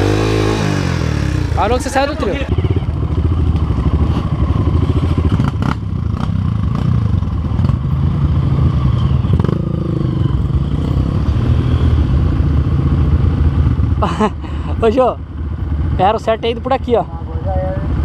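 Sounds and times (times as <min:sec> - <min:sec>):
dirt bike engines at low speed: 0:00.0 - 0:18.0.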